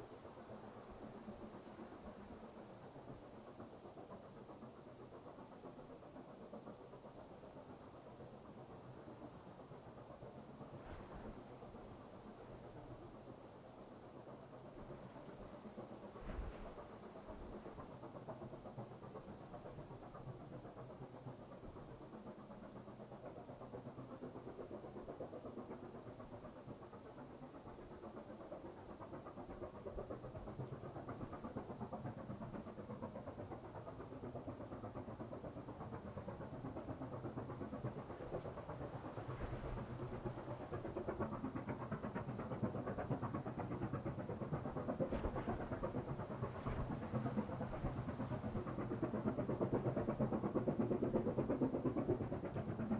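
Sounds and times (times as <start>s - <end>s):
steam locomotive rumbling: 0.0s - 52.9s.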